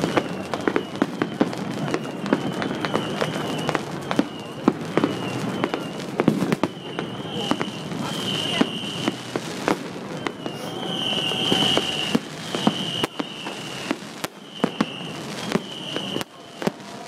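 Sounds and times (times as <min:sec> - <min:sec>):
fireworks bangs and crackles: 0:00.0 - 0:17.0
fireworks whistling: 0:00.0 - 0:17.0.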